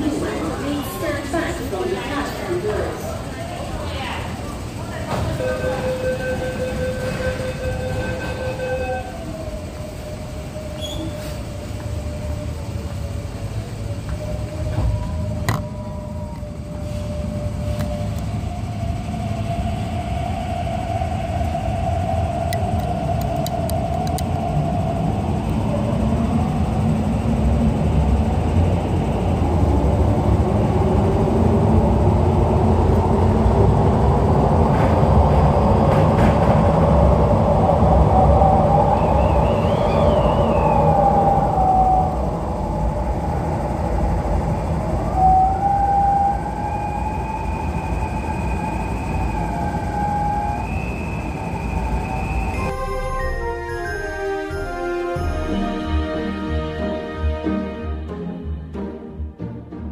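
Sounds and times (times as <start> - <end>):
train rumble: 0.0 - 59.9
electric train motor whine: 4.5 - 36.2, 36.8 - 58.5.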